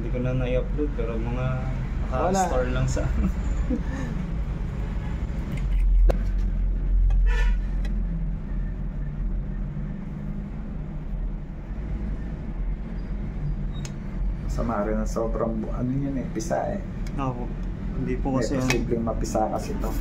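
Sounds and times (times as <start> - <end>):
road traffic engine rumble: 0.0 - 20.0.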